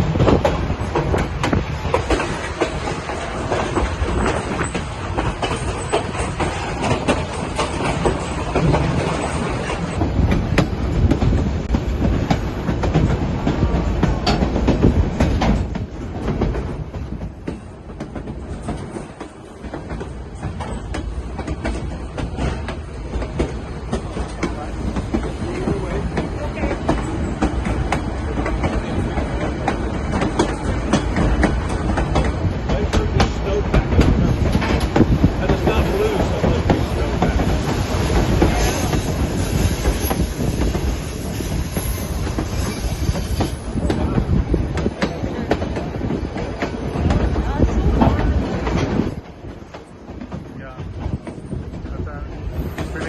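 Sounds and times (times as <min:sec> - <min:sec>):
train rumbling along track: 0:00.0 - 0:53.0
wheels clicking and clacking: 0:00.0 - 0:53.0.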